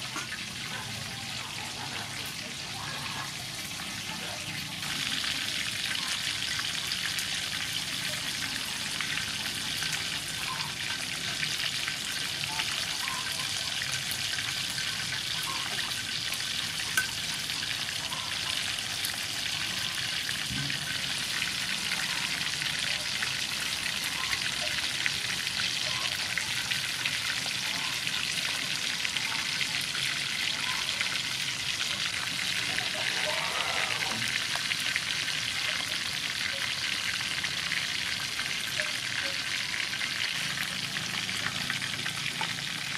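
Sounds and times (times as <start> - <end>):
oil sizzling and crackling: 0.0 - 42.9.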